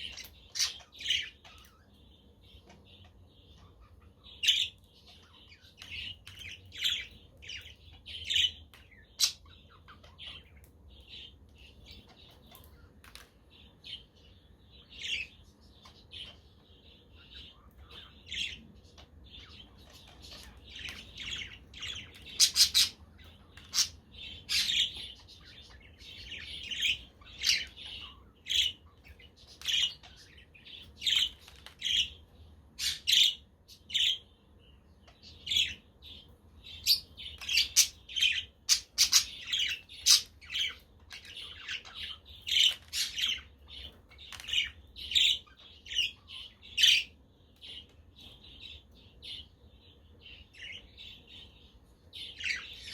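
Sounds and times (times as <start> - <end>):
budgerigars chirping: 0.0 - 13.0, 13.6 - 52.9.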